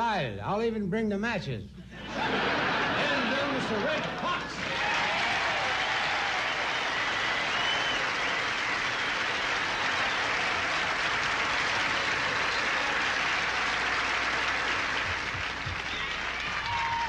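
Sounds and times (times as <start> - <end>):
audience applauding: 2.2 - 17.0.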